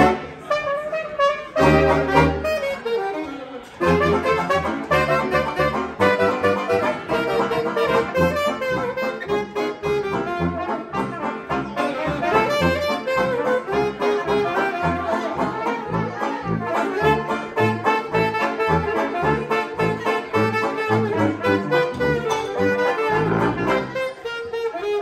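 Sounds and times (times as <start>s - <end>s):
jazz band playing: 0.0s - 25.0s
saxophones and trumpets melody: 0.0s - 25.0s.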